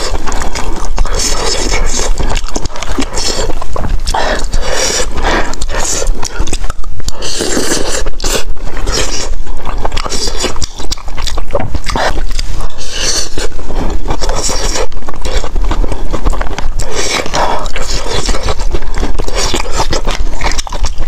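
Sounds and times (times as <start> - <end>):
chewing and mouth smacking: 0.0 - 21.0.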